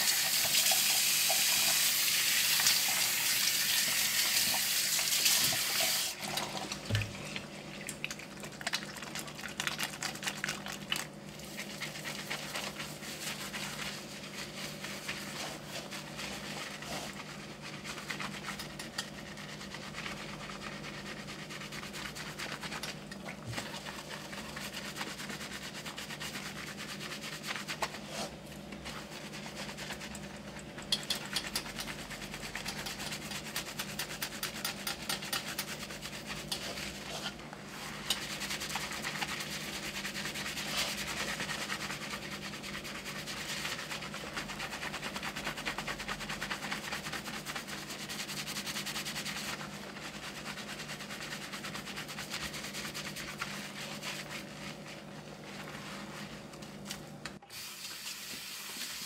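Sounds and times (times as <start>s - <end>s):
hands scrubbing soapy hair: 0.0s - 59.0s.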